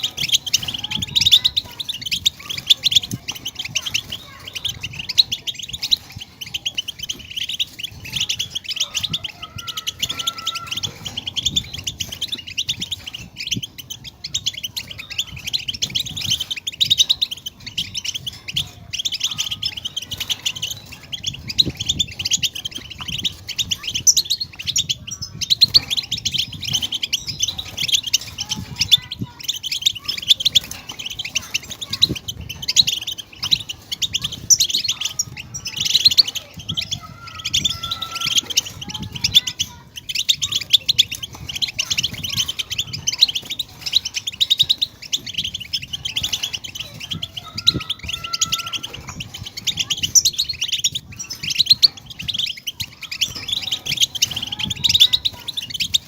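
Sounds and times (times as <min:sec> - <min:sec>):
goldfinch twittering song: 0:00.0 - 0:56.0.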